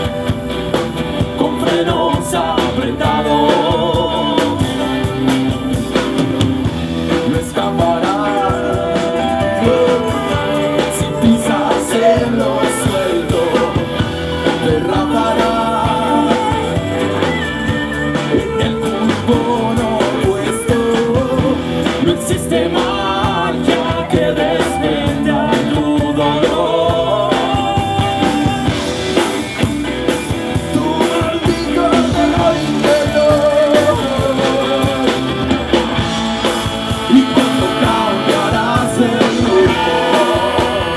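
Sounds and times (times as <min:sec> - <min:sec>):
blues-rock band playing: 0:00.0 - 0:40.9
man singing: 0:01.1 - 0:40.9.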